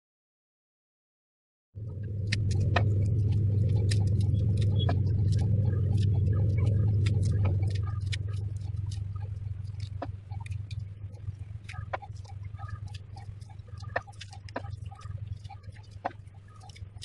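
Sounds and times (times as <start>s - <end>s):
steady low hum: 1.8s - 17.0s
garlic skins crackling: 2.1s - 17.0s.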